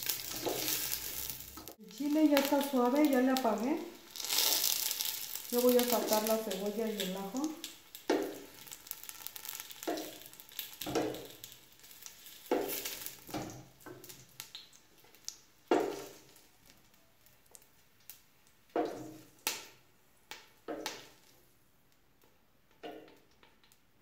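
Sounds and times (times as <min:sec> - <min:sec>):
oil sizzling: 0:00.0 - 0:24.0.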